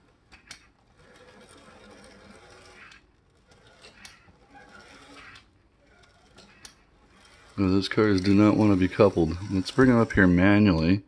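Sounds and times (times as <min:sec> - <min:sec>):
model train motor whir: 0:00.0 - 0:11.0.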